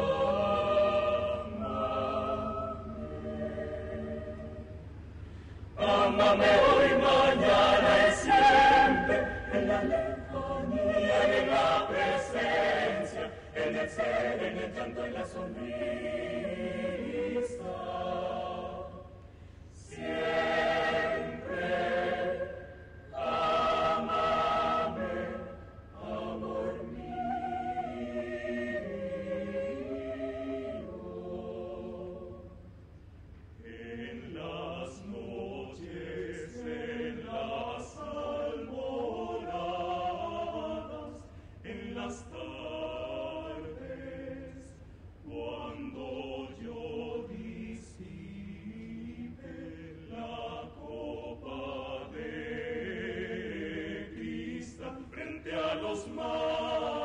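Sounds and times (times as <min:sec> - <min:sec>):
mixed choir singing: 0:00.0 - 0:04.9, 0:05.8 - 0:32.6, 0:33.6 - 0:57.0.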